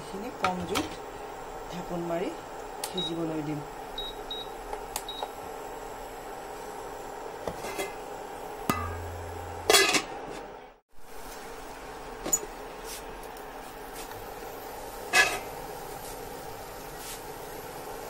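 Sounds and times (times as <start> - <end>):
steady hum: 0.0 - 16.7.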